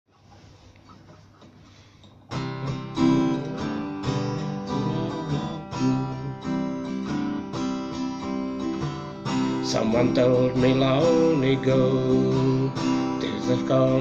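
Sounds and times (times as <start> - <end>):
acoustic guitar strumming: 0.9 - 14.0.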